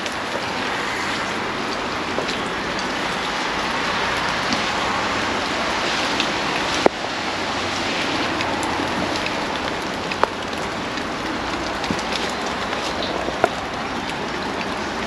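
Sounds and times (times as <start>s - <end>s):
steady rain hissing: 0.0s - 15.0s.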